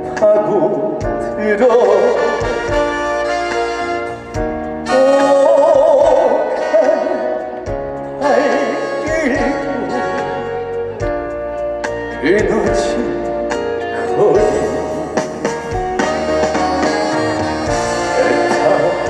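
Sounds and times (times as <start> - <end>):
slow ballad band music: 0.0 - 19.0.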